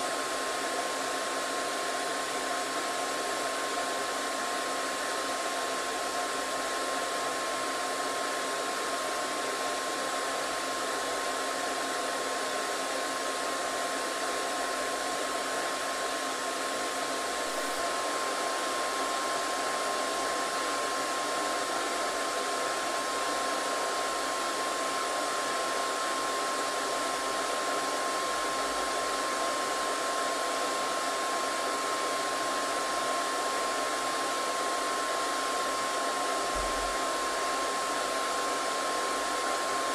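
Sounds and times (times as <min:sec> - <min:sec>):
hair dryer blowing air: 0:00.0 - 0:39.9.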